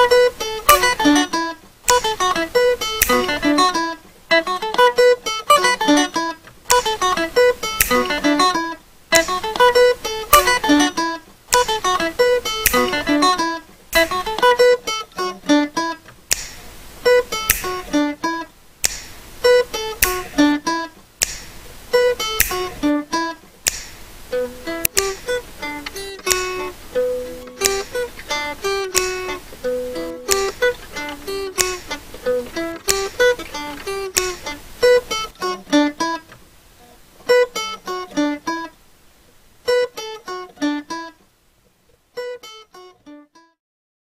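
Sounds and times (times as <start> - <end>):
acoustic guitar picking: 0.0 - 36.4, 37.2 - 38.7, 39.6 - 41.2.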